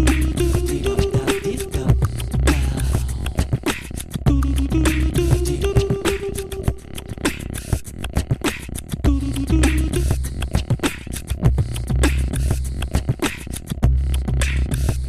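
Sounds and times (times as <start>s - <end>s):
beatbox-style music with bass: 0.0s - 15.0s.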